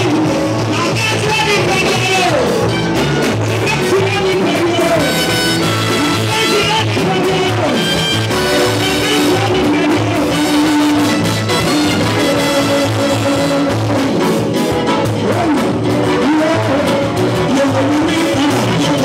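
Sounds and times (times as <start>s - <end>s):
upbeat gospel band music: 0.0s - 19.0s.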